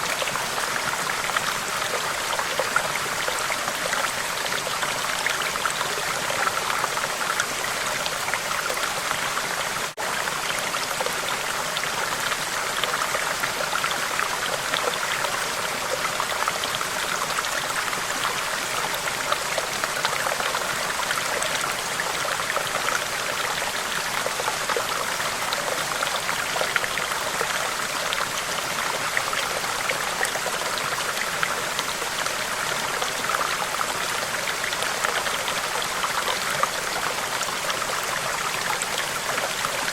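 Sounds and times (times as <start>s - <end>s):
flowing water splashing: 0.0s - 39.9s.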